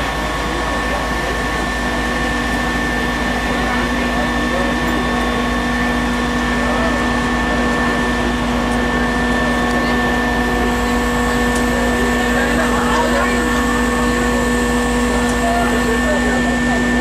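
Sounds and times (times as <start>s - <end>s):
faint voices: 0.0s - 17.0s
machine drone: 0.0s - 17.0s.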